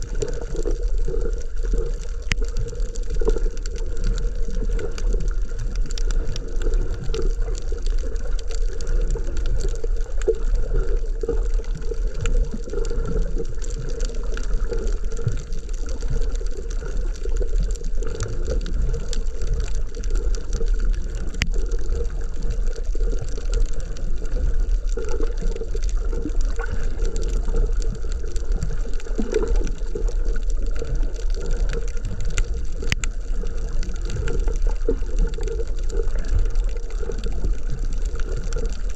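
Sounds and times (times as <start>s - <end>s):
low underwater rumble: 0.0s - 38.9s
muffled underwater wash: 0.0s - 38.9s
faint clicks: 0.1s - 38.9s.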